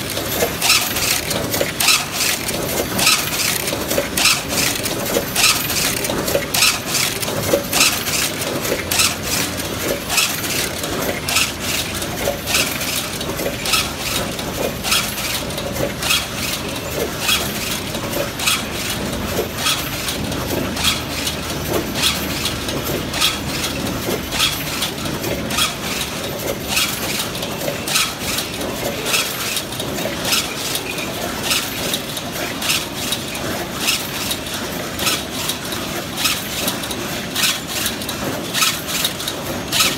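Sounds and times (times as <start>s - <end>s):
loom metallic clacking: 0.0s - 39.9s
steady machine hum: 0.0s - 39.9s.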